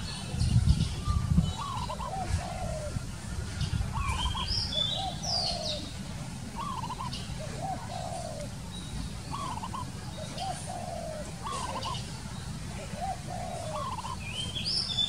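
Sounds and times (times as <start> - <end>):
dove cooing: 1.5 - 14.7.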